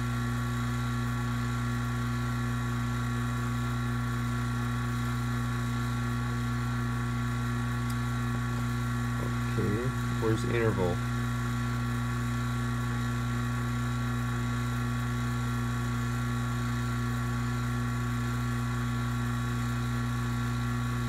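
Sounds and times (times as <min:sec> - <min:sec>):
vacuum pump motor humming: 0:00.0 - 0:21.0.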